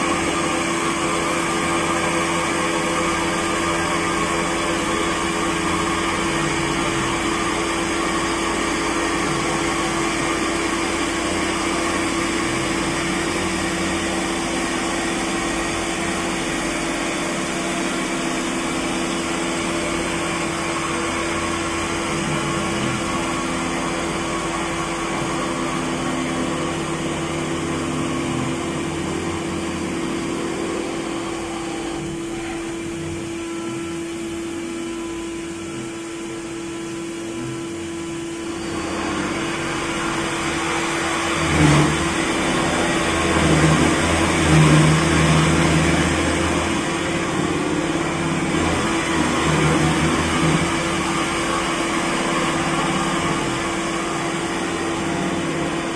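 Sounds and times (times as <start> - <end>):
milling machine cutting metal: 0.0 - 55.9.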